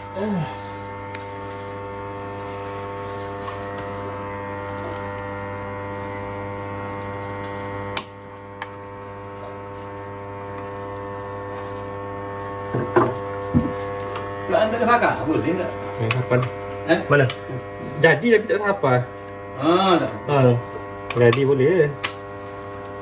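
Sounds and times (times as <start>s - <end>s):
water pump motor humming: 0.0s - 23.0s.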